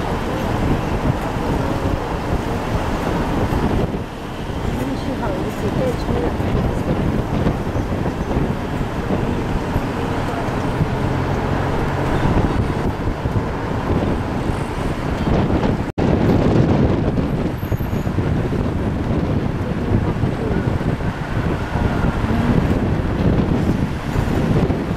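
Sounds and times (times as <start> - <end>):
vehicle road and engine noise: 0.0 - 24.9
wind buffeting microphone: 0.0 - 24.9.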